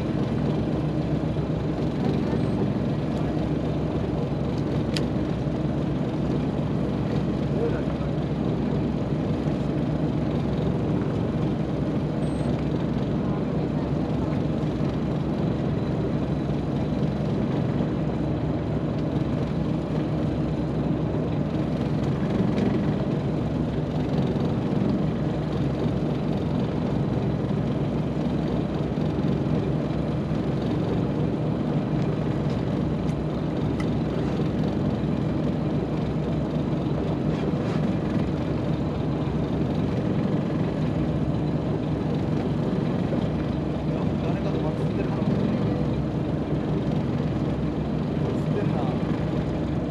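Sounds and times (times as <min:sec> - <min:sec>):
boat engine running: 0:00.0 - 0:49.9.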